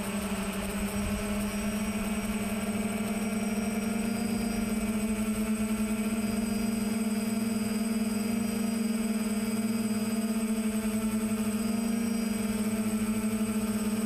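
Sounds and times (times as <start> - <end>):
drone propellers droning: 0.0 - 14.0.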